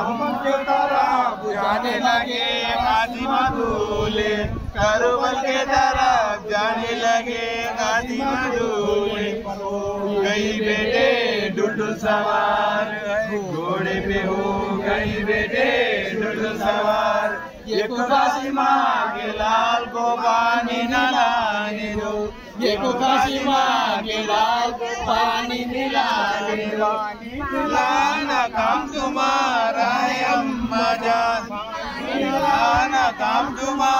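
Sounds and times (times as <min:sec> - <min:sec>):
voices chanting an elegy: 0:00.0 - 0:33.9.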